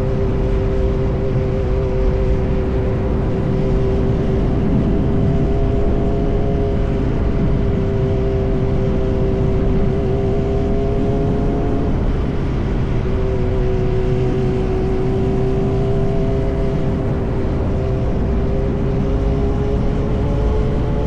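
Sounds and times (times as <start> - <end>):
low rushing noise: 0.0 - 21.0
motorcycle engine cruising: 0.0 - 21.0.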